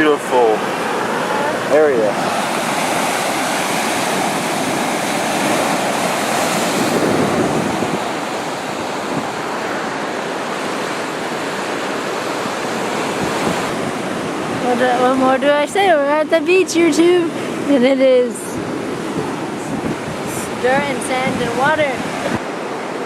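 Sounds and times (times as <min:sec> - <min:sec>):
ocean surf washing onto beach: 0:00.0 - 0:23.0.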